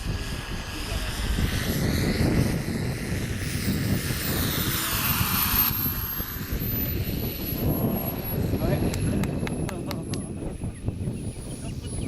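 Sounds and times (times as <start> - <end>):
high turbine whine: 0.0 - 12.0
model aircraft engine running: 0.0 - 12.0.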